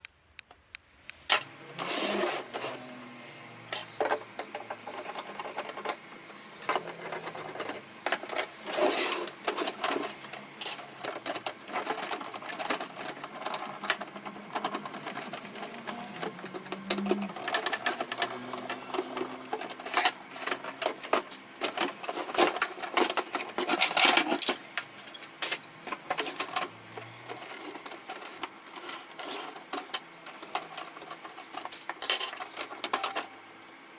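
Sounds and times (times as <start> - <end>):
printer parts clicking and clattering: 3.7 - 33.4.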